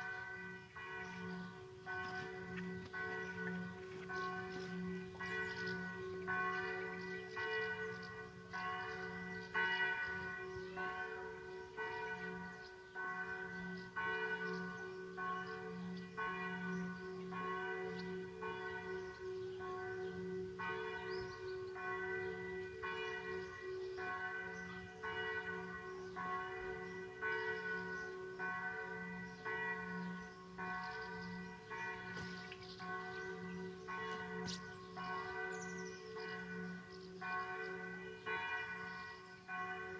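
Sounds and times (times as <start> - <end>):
bells ringing: 0.0 - 39.9.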